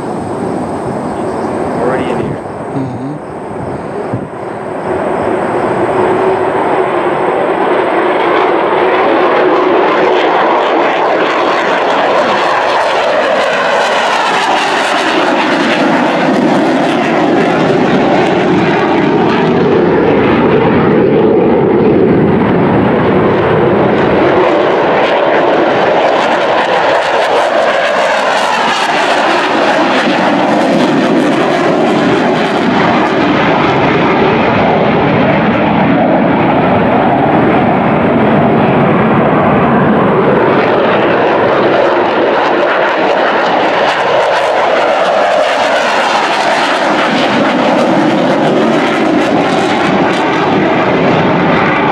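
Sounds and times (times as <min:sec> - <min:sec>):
jet engines roaring past: 0:00.0 - 0:51.9.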